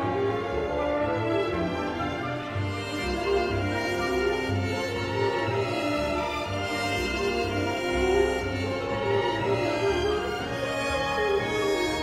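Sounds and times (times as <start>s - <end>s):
chamber ensemble of winds and strings: 0.0s - 12.0s.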